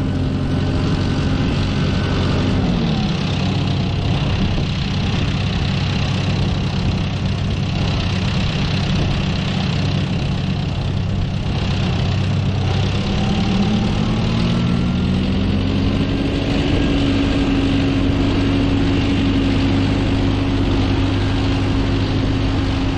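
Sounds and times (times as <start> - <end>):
tractor diesel engine revving: 0.0 - 22.9.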